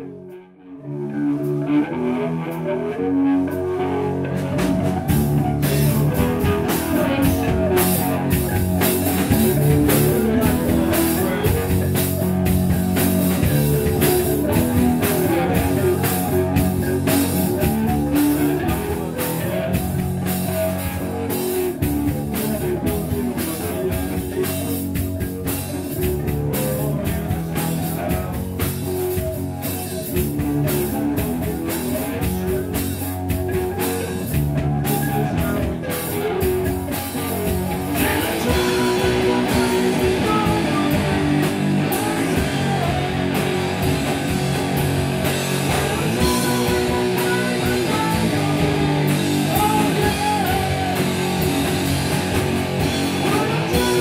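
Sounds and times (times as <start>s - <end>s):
electric guitars: 0.0s - 54.0s
rock band playing: 0.0s - 54.0s
drum kit: 1.1s - 54.0s.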